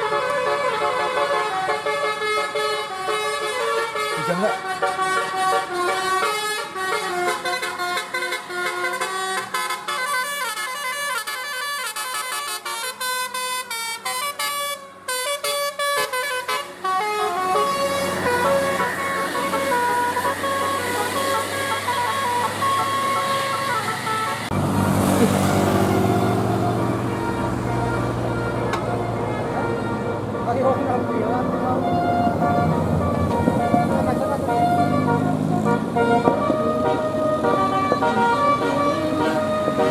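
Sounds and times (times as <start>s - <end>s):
musical air horn melody: 0.0s - 24.6s, 25.2s - 39.9s
bus engine noise: 0.0s - 39.9s.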